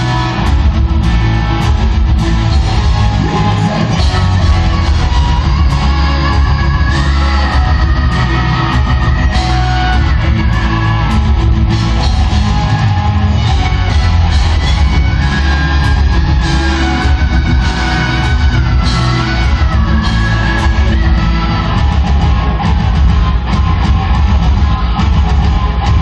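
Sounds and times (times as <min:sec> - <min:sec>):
live rock band playing loud: 0:00.0 - 0:26.0.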